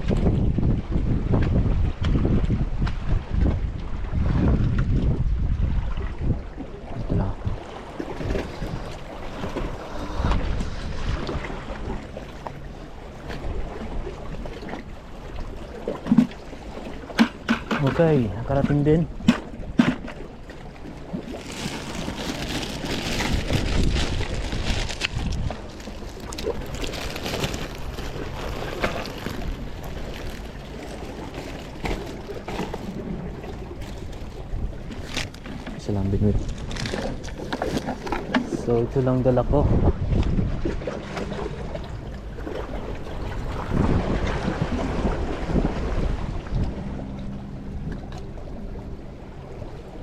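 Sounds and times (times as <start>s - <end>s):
water moving: 0.0s - 50.0s
wind buffeting microphone: 0.0s - 50.0s.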